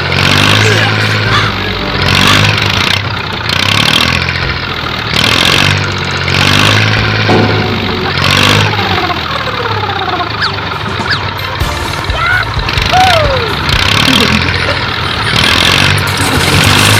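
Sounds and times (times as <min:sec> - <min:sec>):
mini tractor engine running: 0:00.0 - 0:16.9.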